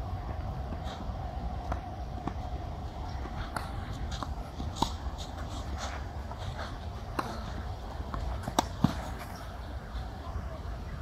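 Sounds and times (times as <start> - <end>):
low outdoor rumble: 0.0 - 11.0
tennis racquets hitting ball: 0.7 - 9.6.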